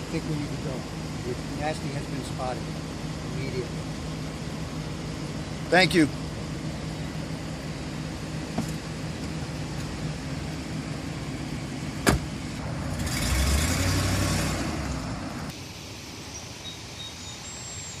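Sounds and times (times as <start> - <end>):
car engine running: 0.0 - 15.5
louder vehicle sound: 0.0 - 15.6.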